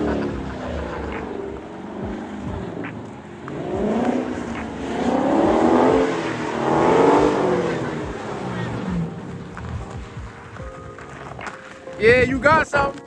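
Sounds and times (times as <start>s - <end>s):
car engine revving: 0.0s - 12.5s.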